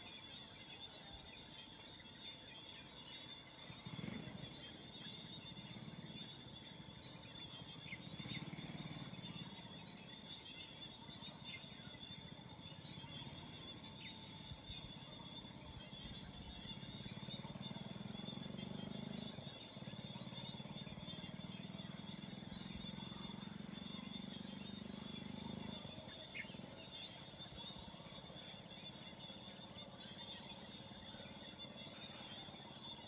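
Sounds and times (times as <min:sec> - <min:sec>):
high-pitched insect drone: 0:02.8 - 0:33.0.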